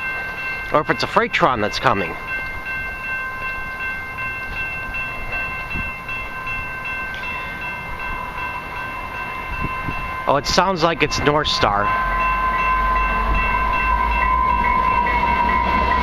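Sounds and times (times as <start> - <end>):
steady high tones: 0.0 - 16.0
train rumble: 0.0 - 16.0.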